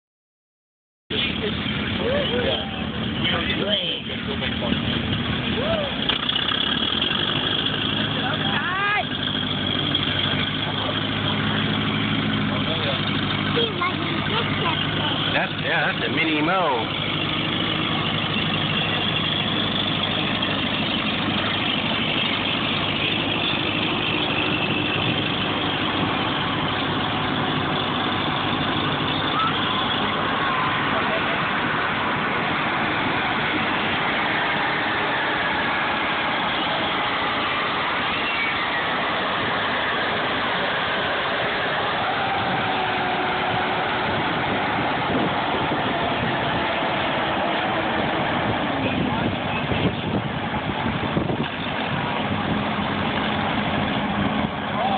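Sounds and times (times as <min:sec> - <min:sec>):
tractor engine running at low revs: 0:01.1 - 0:54.9.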